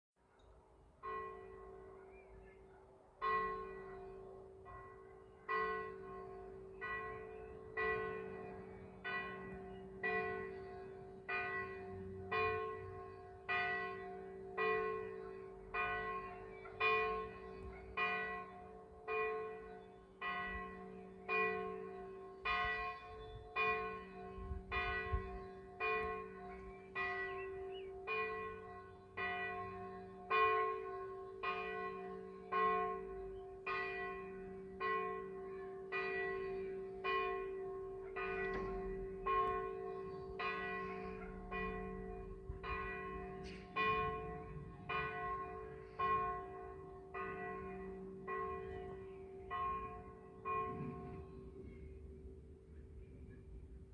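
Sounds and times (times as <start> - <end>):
church bell ringing: 1.0 - 52.9.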